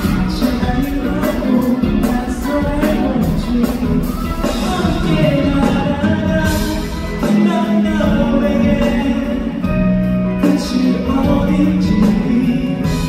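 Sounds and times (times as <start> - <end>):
man singing into microphone: 0.0 - 9.8, 10.4 - 13.0
pop backing music: 0.0 - 13.0.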